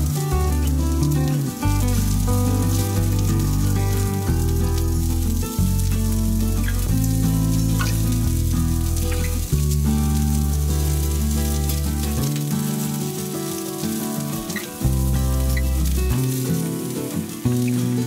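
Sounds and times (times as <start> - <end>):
background music low notes: 0.0 - 18.0
vegetables sizzling on griddle: 0.0 - 18.0.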